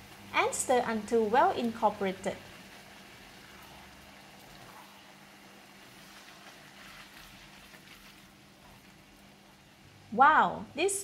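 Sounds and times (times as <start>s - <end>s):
food sizzling in a wok: 0.0s - 10.1s.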